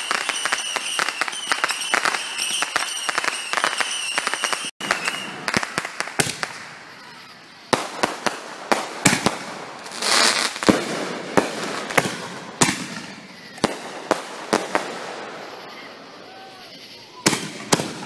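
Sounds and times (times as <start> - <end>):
fireworks bangs and crackles: 0.0 - 18.0
fireworks hissing burst: 0.0 - 18.0
high firework whistle: 0.0 - 18.0.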